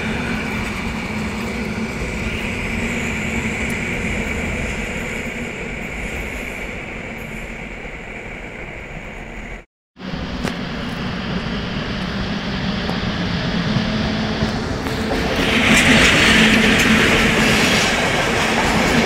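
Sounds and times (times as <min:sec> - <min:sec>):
passenger train running: 0:00.0 - 0:19.0
train approaching: 0:00.0 - 0:19.0.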